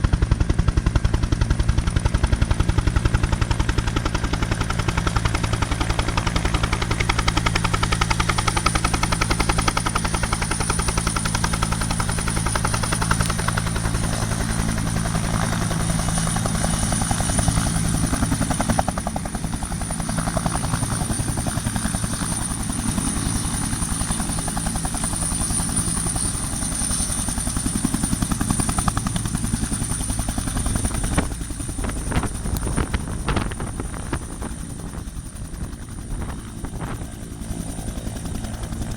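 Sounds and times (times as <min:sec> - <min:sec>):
helicopter rotor beating: 0:00.0 - 0:38.9.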